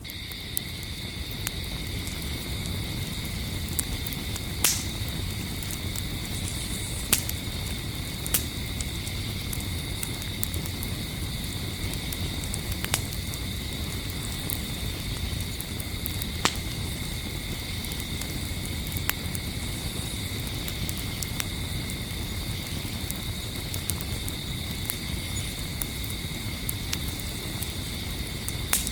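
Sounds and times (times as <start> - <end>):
campfire flames rushing: 0.0 - 28.9
crickets trilling: 0.0 - 28.9
wood popping in fire: 0.0 - 28.9.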